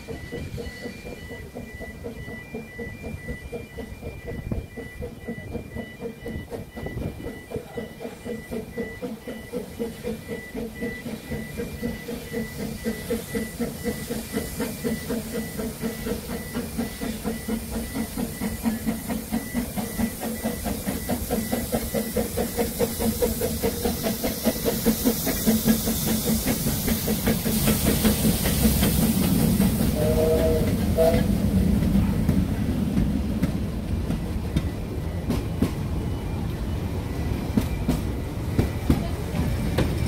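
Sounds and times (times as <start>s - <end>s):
steam locomotive rhythmic beat: 0.0s - 40.0s.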